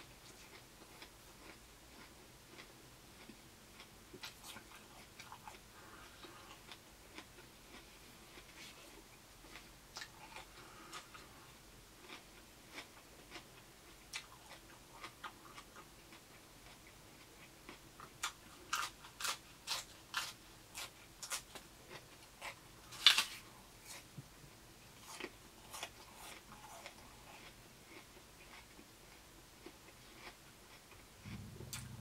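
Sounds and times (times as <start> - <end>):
chewing crisp raw vegetables: 0.0 - 24.2, 24.8 - 32.0.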